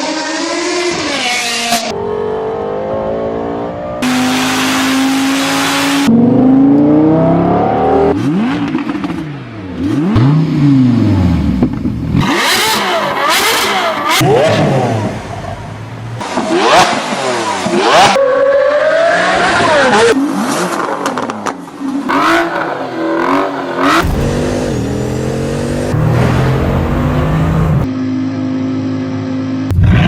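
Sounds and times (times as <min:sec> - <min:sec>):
car engines revving: 0:00.0 - 0:27.9.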